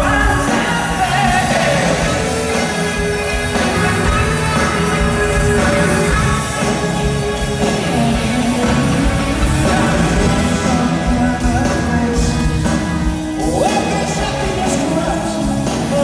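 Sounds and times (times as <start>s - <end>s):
bass and drums: 0.0s - 16.0s
electric guitar melody: 0.0s - 16.0s.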